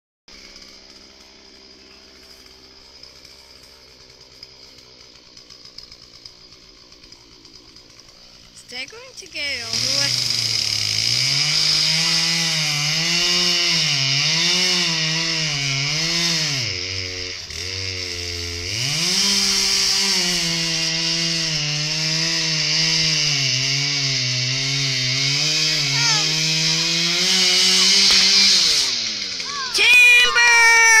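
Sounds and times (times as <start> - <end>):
chainsaw cutting tree trunk: 0.3 - 31.0.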